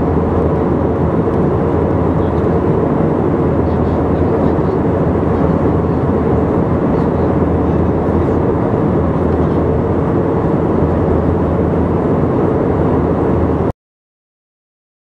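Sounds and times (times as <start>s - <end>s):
airliner cabin noise: 0.0s - 13.7s.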